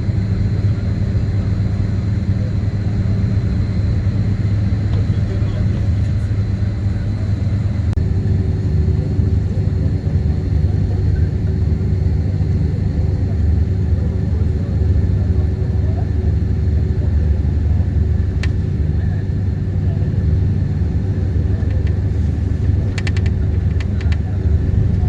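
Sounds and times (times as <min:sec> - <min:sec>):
moving vehicle rumble: 0:00.0 - 0:25.0.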